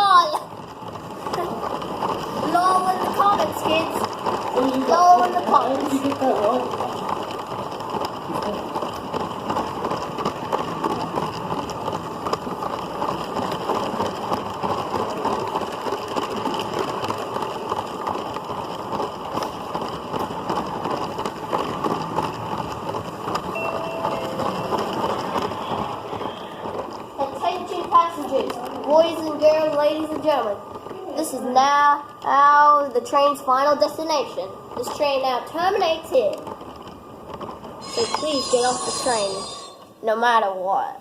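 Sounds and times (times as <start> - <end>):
toy train rattling on plastic track: 0.0 - 41.0.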